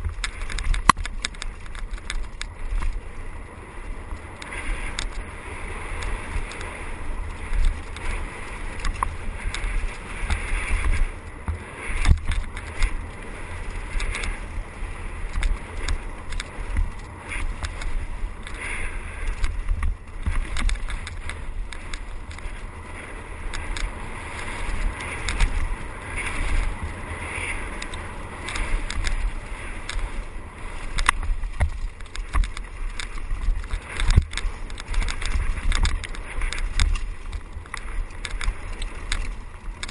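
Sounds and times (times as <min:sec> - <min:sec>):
bike rattling and knocking: 0:00.0 - 0:39.9
tyres rolling on dirt: 0:00.0 - 0:39.9
wind buffeting microphone: 0:00.0 - 0:39.9.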